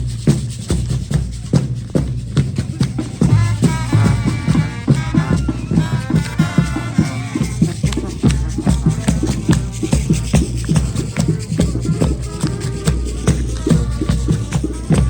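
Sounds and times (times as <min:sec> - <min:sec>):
drums beating: 0:00.0 - 0:15.0.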